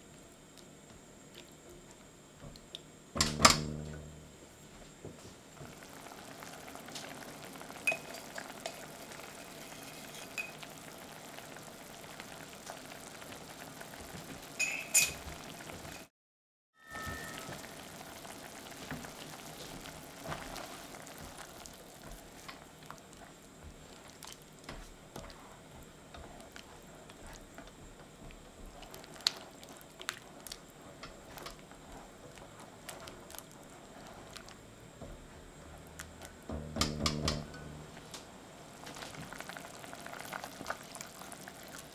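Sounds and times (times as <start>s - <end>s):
sauce bubbling in a pan: 5.6s - 16.1s, 16.9s - 37.4s, 38.5s - 41.9s.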